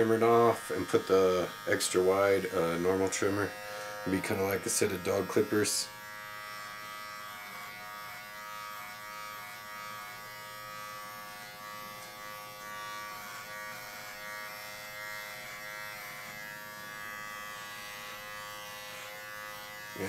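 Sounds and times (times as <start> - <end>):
electric trimmer buzzing: 0.0 - 20.0.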